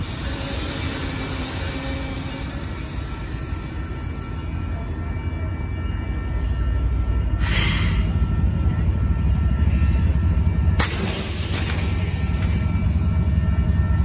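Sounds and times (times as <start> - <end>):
locomotive engine rumble: 0.0 - 14.0.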